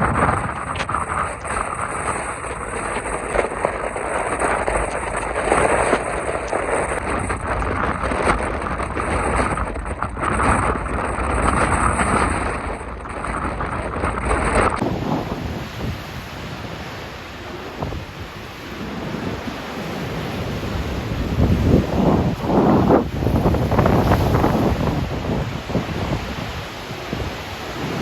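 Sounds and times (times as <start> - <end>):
heavy surf breaking: 0.0 - 28.0
wind buffeting microphone: 0.0 - 28.0.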